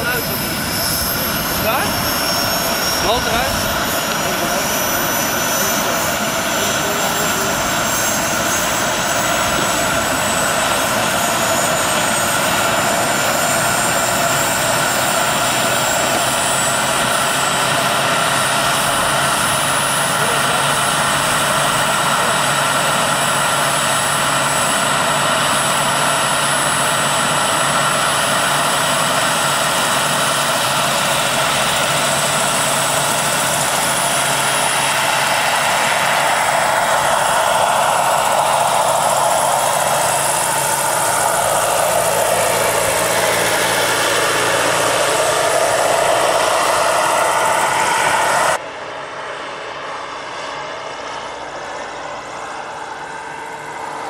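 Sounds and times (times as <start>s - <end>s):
low hum: 0.0s - 54.0s
model helicopter turbine engine: 0.0s - 54.0s.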